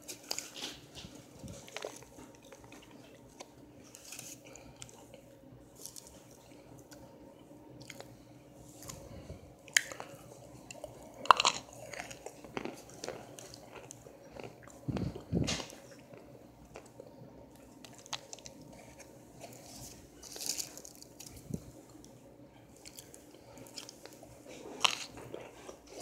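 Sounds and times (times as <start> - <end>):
crunchy chewing: 0.0 - 7.1, 7.8 - 26.0.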